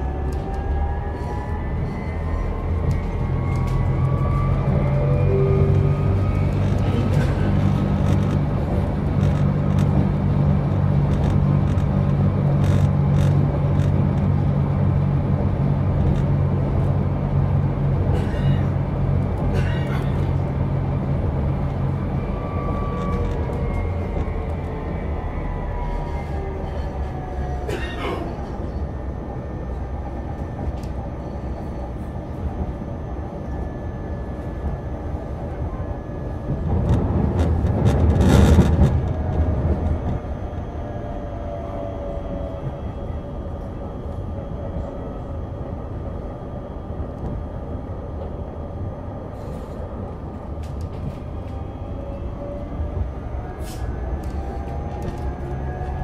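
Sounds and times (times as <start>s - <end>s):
rumble: 0.0s - 56.0s
tram electric drive whine: 0.0s - 56.0s.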